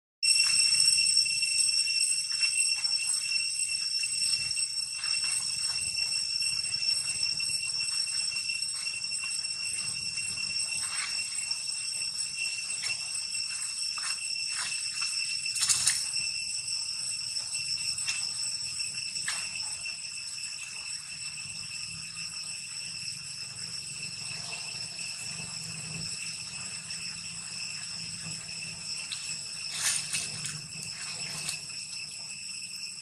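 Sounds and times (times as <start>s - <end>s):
cicada drone: 0.2s - 33.0s.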